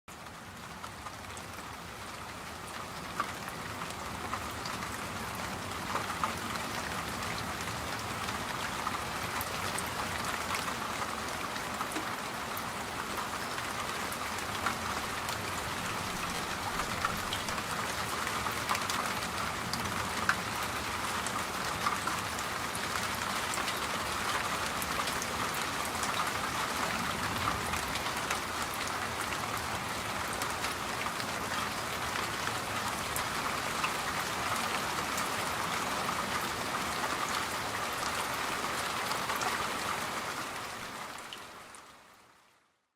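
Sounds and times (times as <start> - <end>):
steady rain falling: 0.1 - 42.9.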